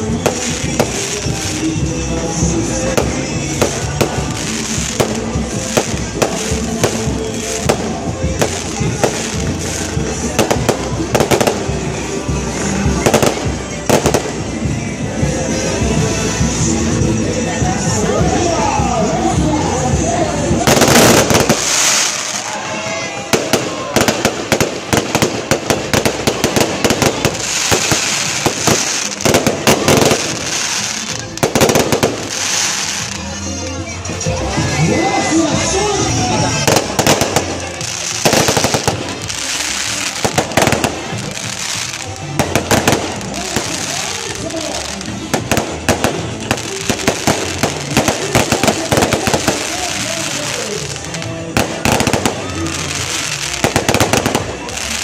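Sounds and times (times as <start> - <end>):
hissing rush of sparks: 0.0 - 14.6, 20.7 - 33.2, 36.6 - 55.0
fireworks crackling bangs: 0.0 - 17.0, 20.4 - 34.3, 35.5 - 55.0.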